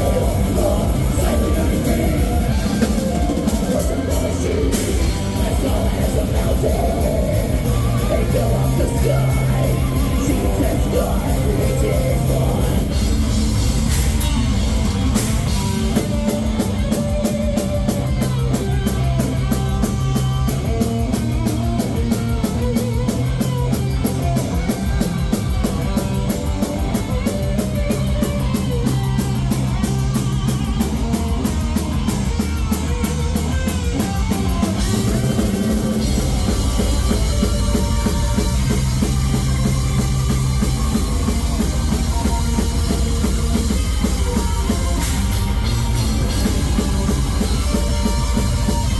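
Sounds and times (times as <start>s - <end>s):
heavy metal band playing live: 0.0s - 48.9s.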